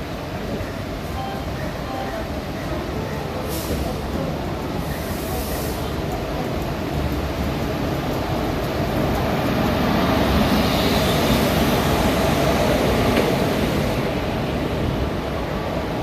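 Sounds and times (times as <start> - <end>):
train rumbling along track: 0.0 - 16.0.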